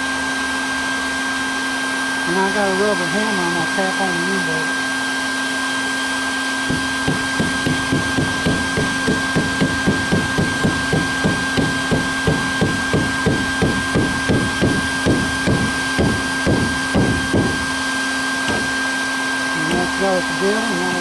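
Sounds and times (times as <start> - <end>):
vacuum cleaner whine: 0.0 - 21.0.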